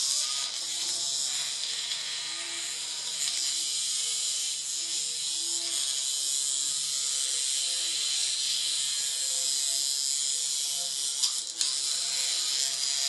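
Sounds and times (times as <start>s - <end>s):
vibrating toy buzzing on tile: 0.0s - 13.0s.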